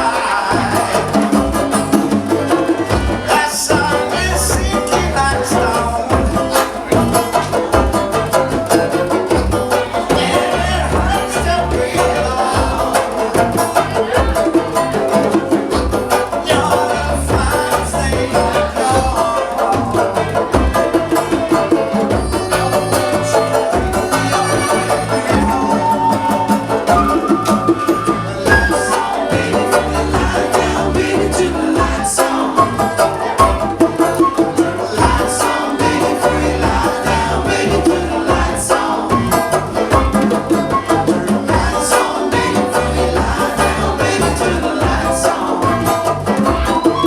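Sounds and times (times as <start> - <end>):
live acoustic band playing: 0.0 - 47.0
repeating bass line and beat: 0.0 - 47.0.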